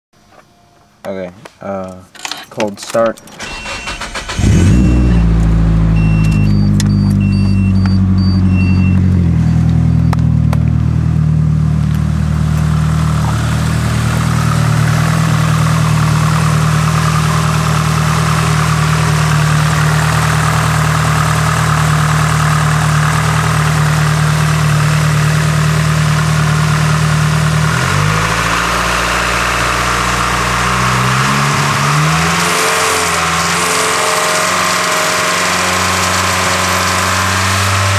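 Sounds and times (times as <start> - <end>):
car engine starting and idling: 1.9 - 37.9.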